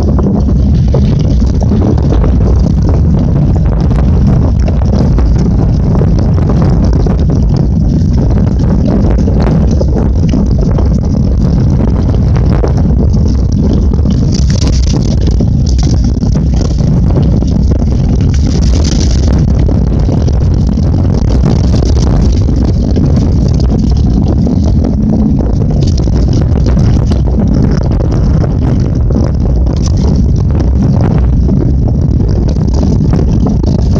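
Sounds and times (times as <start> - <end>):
bike rattling and knocking: 0.0 - 33.9
wind rumble on microphone: 0.0 - 33.9.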